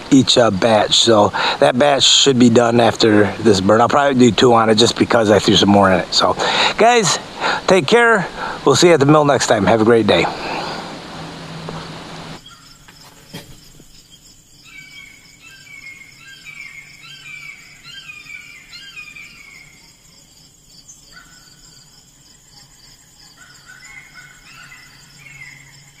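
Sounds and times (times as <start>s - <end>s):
birds chirping: 0.0s - 20.1s, 23.3s - 26.0s
insects trilling: 0.0s - 26.0s.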